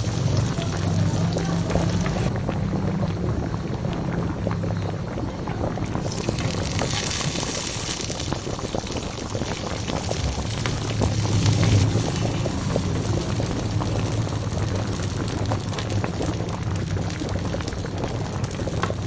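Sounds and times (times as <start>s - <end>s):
rice sizzling in a hot pan: 0.0s - 2.3s, 5.4s - 19.0s.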